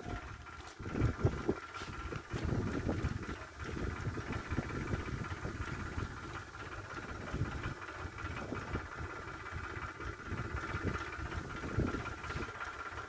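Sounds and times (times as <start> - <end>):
wind on microphone: 0.0 - 12.5
tractor engine running: 0.0 - 13.0.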